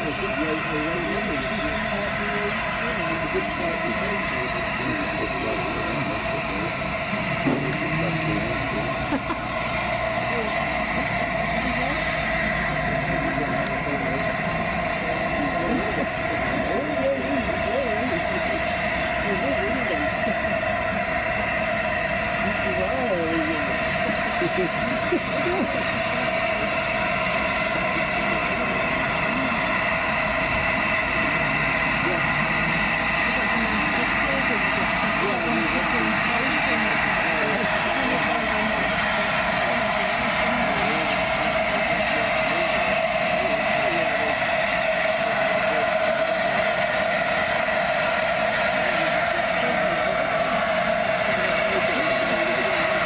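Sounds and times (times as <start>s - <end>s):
locomotive hissing and humming: 0.0s - 53.0s.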